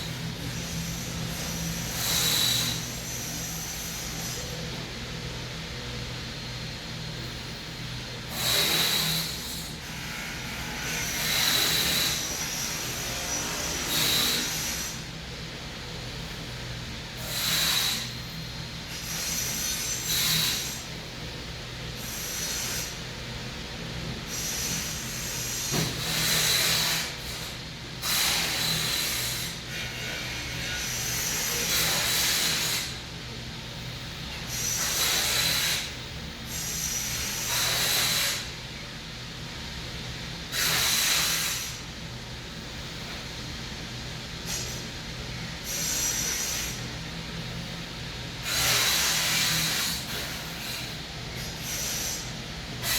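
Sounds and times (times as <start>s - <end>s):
steady low hum: 0.0s - 26.4s, 35.8s - 52.9s.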